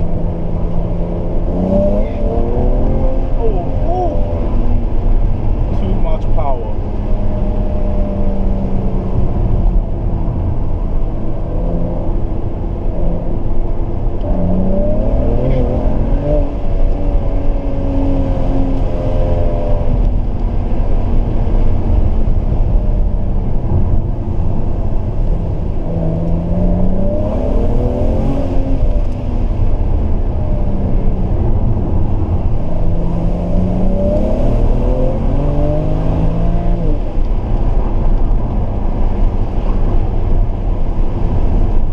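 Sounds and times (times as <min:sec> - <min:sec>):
car engine accelerating: 0:00.0 - 0:41.9
road rumble: 0:00.0 - 0:41.9.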